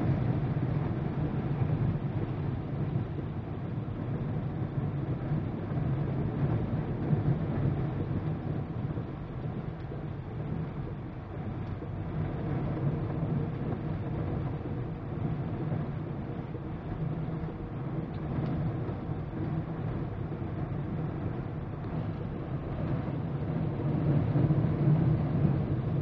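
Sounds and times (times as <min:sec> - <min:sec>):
engine and tyres rumbling: 0:00.0 - 0:26.0.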